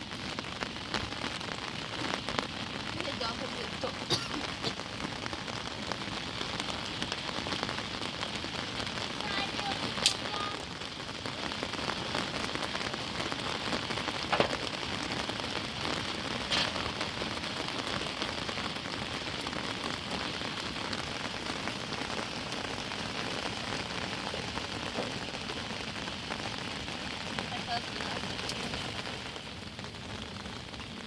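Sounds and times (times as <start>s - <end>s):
heavy rain falling: 0.0s - 31.0s
sharp raindrop hits: 0.0s - 31.0s.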